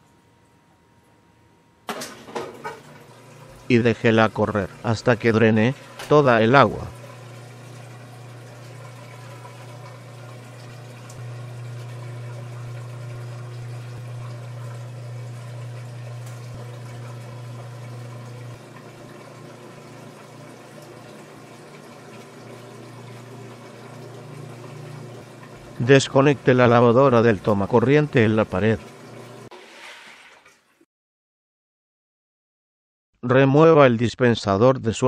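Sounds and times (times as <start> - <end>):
washer motor hum: 0.0 - 30.8
drain pump pushing water: 1.9 - 30.8.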